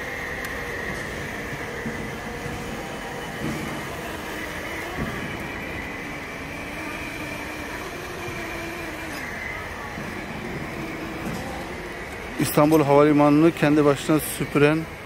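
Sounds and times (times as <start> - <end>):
cleaning robot motor drone: 0.0 - 15.0.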